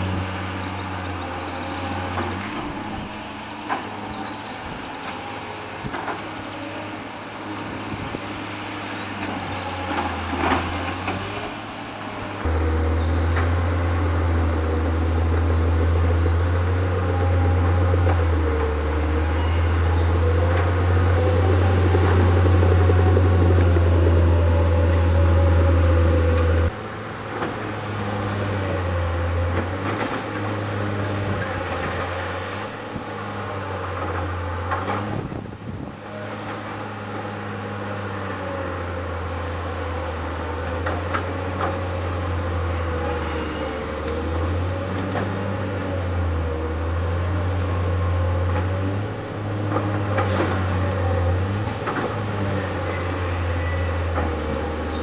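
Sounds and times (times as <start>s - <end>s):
diesel excavator engines working: 0.0s - 55.0s
heavy low drone: 0.0s - 55.0s.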